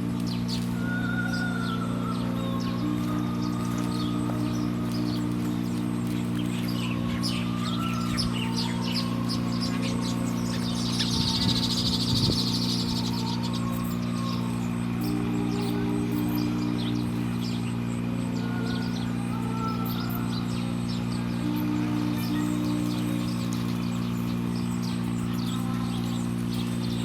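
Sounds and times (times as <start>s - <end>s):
buzzy bird trill: 0.0s - 27.0s
low droning background music: 0.0s - 27.0s
small birds chirping: 0.0s - 27.0s.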